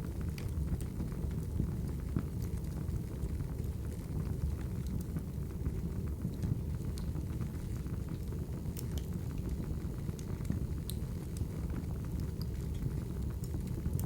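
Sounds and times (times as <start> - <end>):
fire rumbling: 0.0 - 14.0
wood fire popping and crackling: 0.0 - 14.0.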